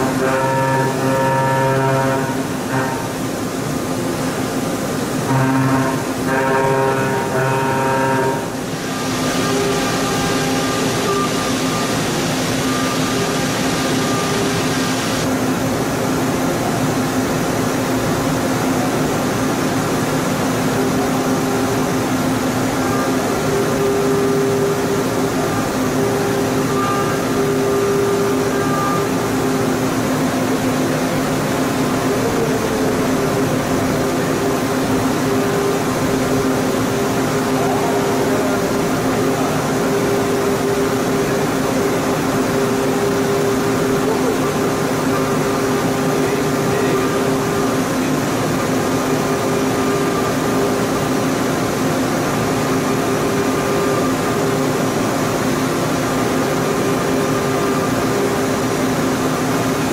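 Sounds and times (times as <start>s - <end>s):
milling machine hum: 0.0s - 59.9s.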